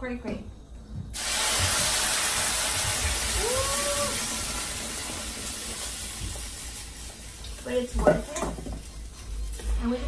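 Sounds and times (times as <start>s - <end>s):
salsa sizzling in hot oil: 1.1s - 10.0s.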